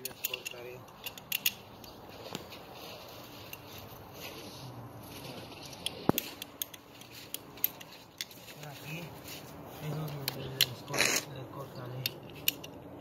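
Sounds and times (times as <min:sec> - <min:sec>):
light handling noise: 0:00.0 - 0:11.2.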